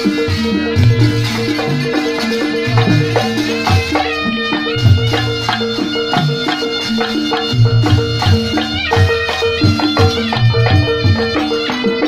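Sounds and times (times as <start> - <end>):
deep gong and drum beats: 0.0 - 12.0
shawm melody: 0.0 - 12.0
small gongs and drum pattern: 0.0 - 12.0.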